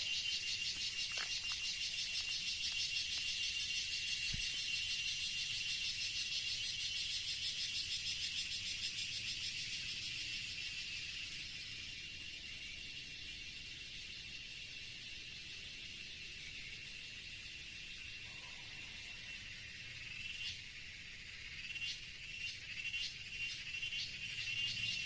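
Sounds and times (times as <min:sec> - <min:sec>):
insects pulsing trill: 0:00.0 - 0:25.0.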